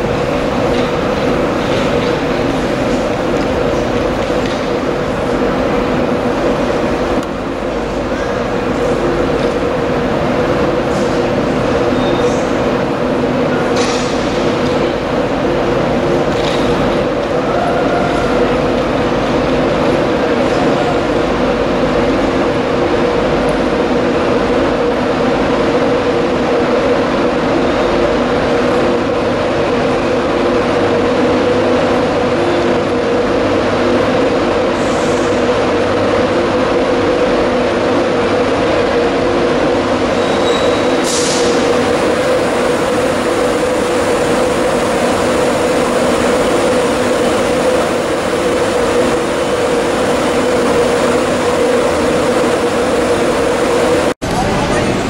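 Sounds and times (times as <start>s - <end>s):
electric locomotive hum: 0.0s - 55.0s.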